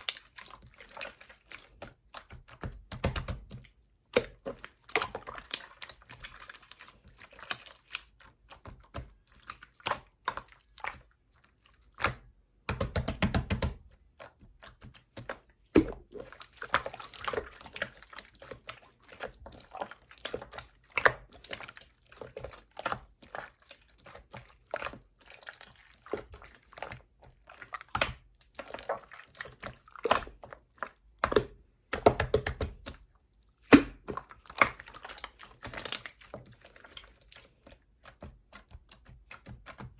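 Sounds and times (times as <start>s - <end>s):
rapid crackling of slime: 0.0s - 39.9s
slime squished by hand: 0.0s - 39.9s.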